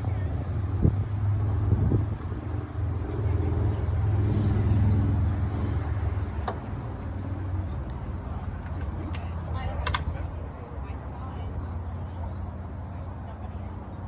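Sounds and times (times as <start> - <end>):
vehicle engine hum passing: 0.0 - 14.0.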